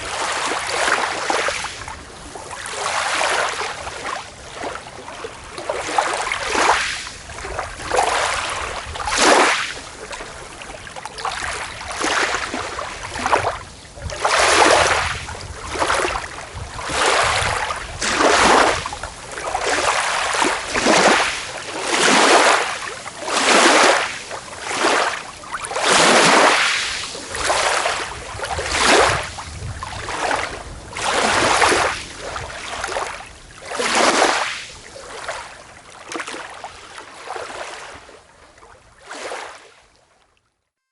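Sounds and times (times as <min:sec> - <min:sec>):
small waves washing onto beach: 0:00.0 - 0:40.3.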